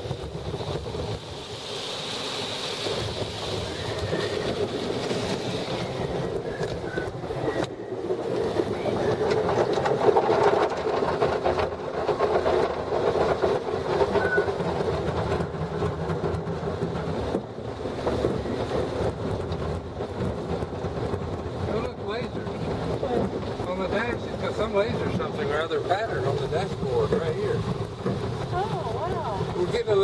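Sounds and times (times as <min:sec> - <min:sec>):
car wash spraying water: 0:00.0 - 0:30.0
rushing rumbling noise: 0:00.0 - 0:30.0.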